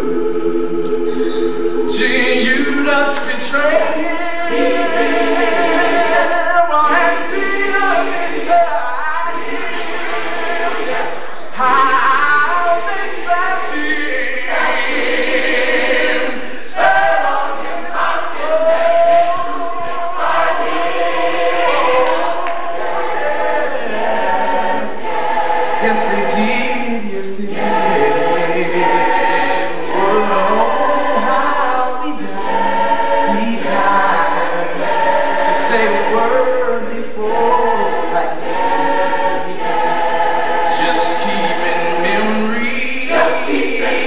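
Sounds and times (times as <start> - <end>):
choir singing a cappella: 0.0 - 44.0.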